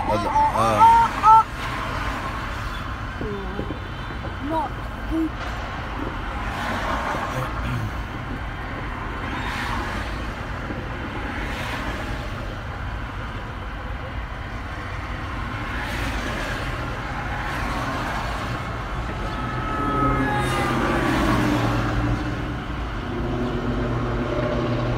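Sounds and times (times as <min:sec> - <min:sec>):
road traffic passing: 0:00.0 - 0:24.9.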